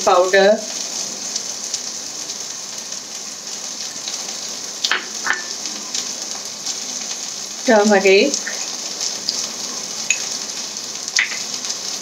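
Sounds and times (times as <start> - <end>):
oil sizzling in pans: 0.0 - 12.0.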